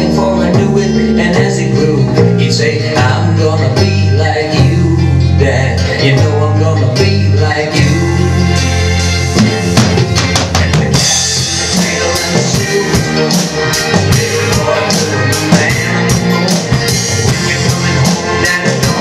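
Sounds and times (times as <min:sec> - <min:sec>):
drum kit playing: 0:00.0 - 0:19.0
recorded rock song: 0:00.0 - 0:19.0.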